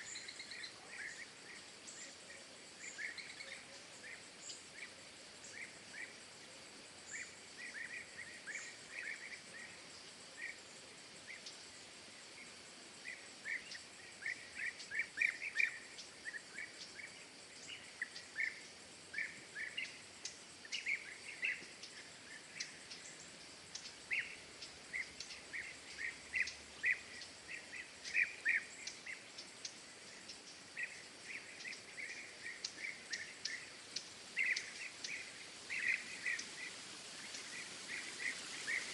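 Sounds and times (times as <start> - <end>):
faint background hiss: 0.0 - 38.9
small birds chirping: 0.0 - 38.9.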